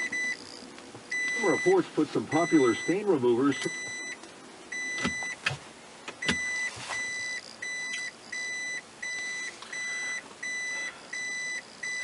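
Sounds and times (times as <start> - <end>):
car reverse warning beeps: 0.0 - 5.5, 6.1 - 12.0.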